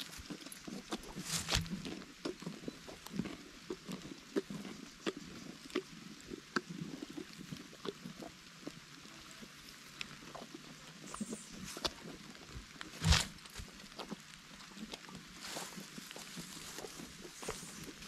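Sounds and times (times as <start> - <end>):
donkey chewing: 0.0 - 18.0.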